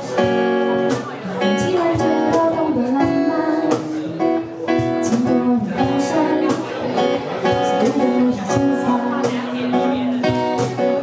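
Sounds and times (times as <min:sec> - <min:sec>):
drums: 0:00.0 - 0:11.0
strummed guitar: 0:00.0 - 0:11.0.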